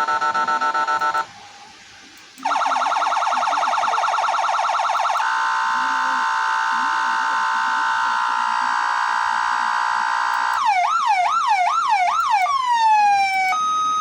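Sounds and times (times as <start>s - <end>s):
electronic siren: 2.4s - 14.0s.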